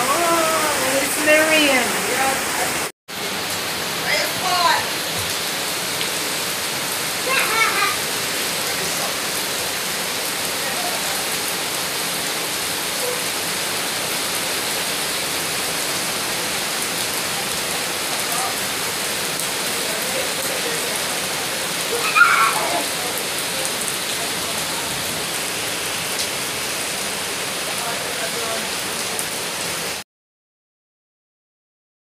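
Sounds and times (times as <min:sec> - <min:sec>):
rain splashing on pavement and leaves: 0:00.0 - 0:30.0.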